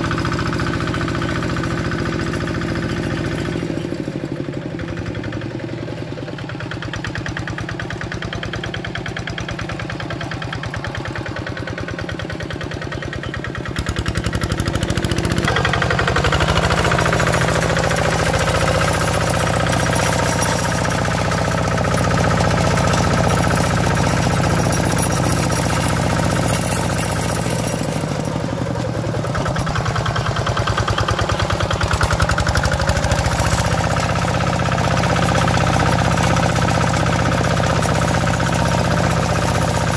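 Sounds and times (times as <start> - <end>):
diesel engine chugging: 0.0 - 39.9
tiller blades churning mud: 0.0 - 39.9.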